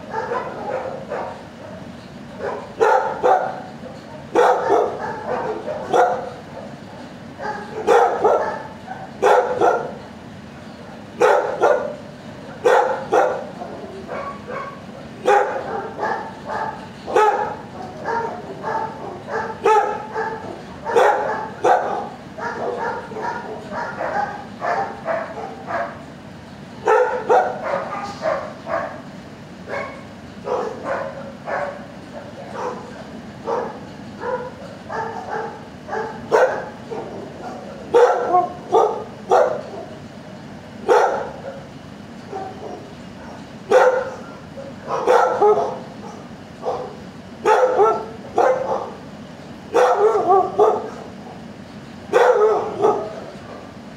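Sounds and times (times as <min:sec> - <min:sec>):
dogs barking: 0:00.0 - 0:53.9.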